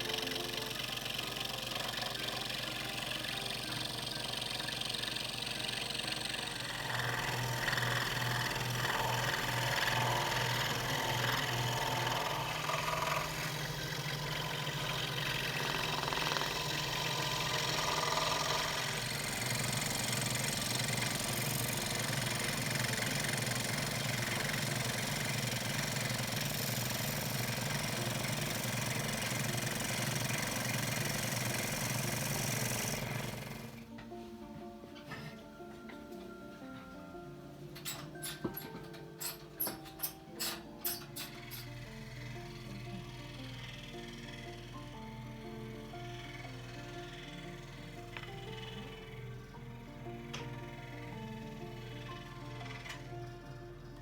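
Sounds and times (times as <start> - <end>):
scroll saw cutting wood: 0.0 - 33.9, 39.2 - 54.0.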